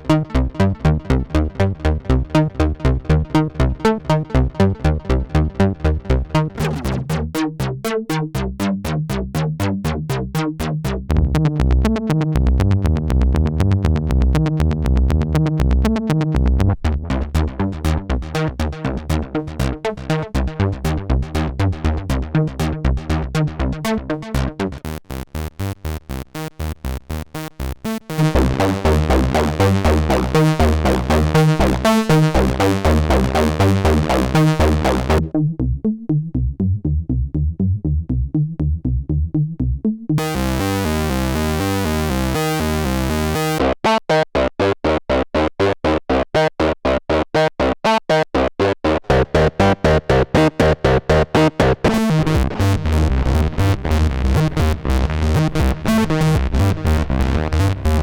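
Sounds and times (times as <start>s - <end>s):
synthesizer bass sequence: 0.0s - 43.7s, 48.4s - 58.0s.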